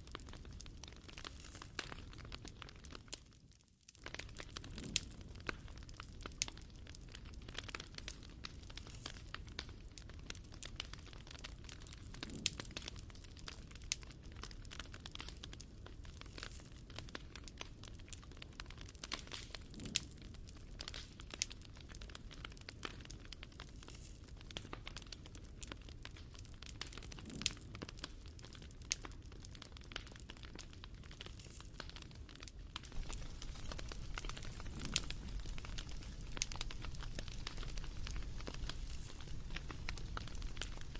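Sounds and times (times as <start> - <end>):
low fire rumble: 0.0 - 3.3, 3.9 - 40.9
wood fire crackling: 0.0 - 40.9
sharp fire pops: 4.0 - 40.9.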